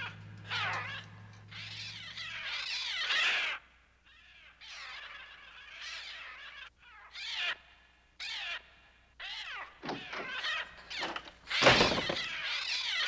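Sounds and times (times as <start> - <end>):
birds shrieking and cawing: 0.0 - 13.0.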